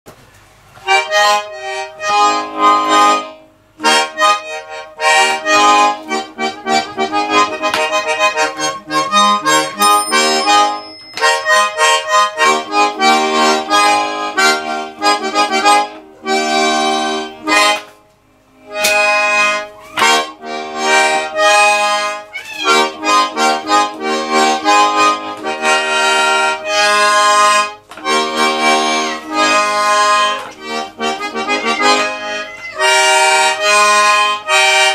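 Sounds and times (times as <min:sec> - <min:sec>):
button accordion chords and runs: 0:00.8 - 0:17.9, 0:18.6 - 0:34.9.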